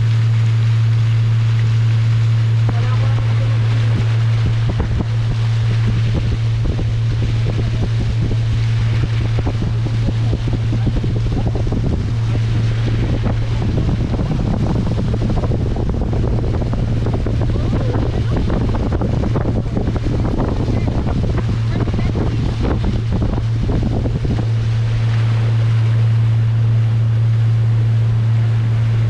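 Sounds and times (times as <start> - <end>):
motorboat engine humming: 0.0 - 29.0
water slapping against hull: 0.0 - 29.0
wind buffeting microphone: 0.0 - 29.0.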